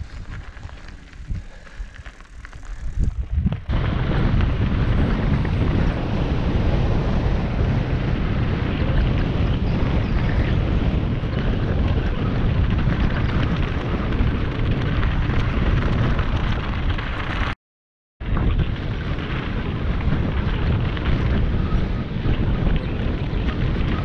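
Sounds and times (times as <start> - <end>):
bike rattling over gravel: 0.0 - 17.6, 18.2 - 24.0
wind buffeting microphone: 0.0 - 17.6, 18.2 - 24.0.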